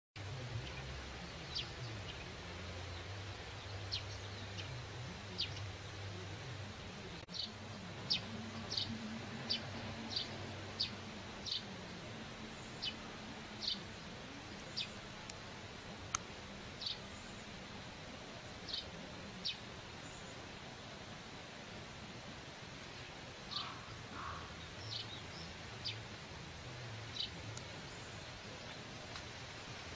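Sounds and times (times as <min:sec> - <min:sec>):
faint low hum: 0:00.2 - 0:29.9.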